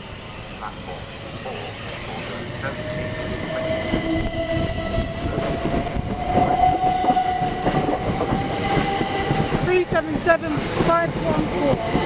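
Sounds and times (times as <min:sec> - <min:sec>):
train motor whine: 0:00.0 - 0:12.0.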